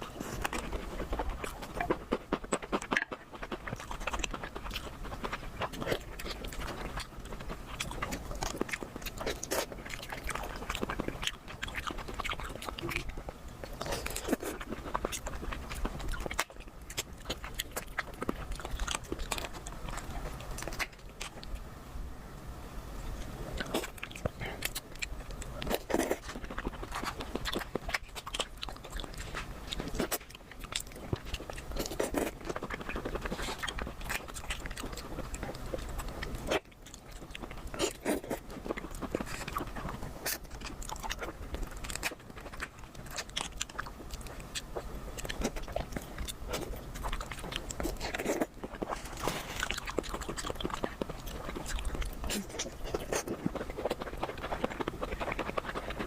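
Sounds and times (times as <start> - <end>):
person chewing crunchy food: 0.0 - 21.7, 23.0 - 56.0.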